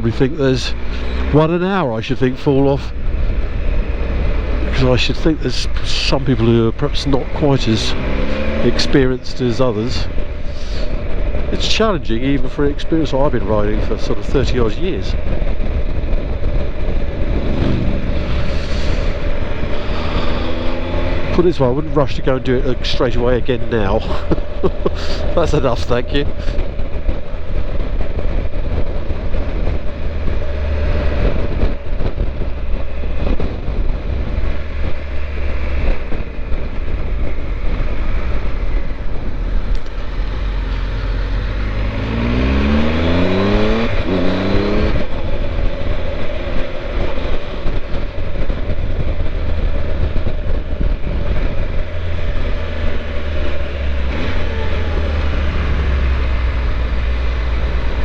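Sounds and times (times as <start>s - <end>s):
motorcycle engine revving: 0.0s - 12.1s, 13.4s - 58.0s
wind rush over microphone: 0.0s - 58.0s.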